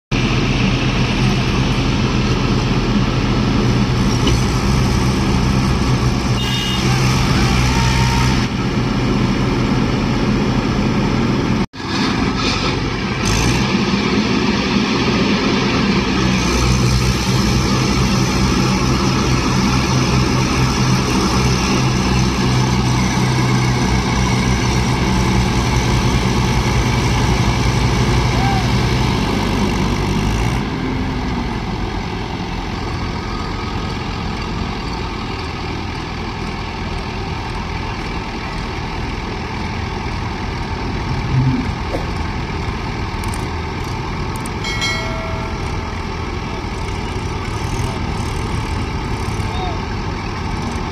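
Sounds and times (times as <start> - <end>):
tractor diesel engines running hard: 0.1 - 50.9.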